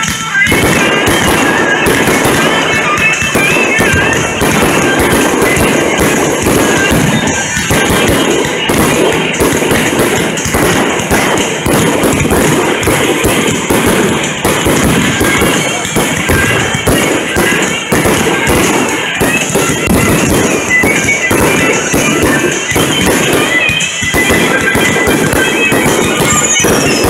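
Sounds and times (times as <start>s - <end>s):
fireworks launching and bursting: 0.0s - 27.0s
loud music: 0.0s - 27.0s.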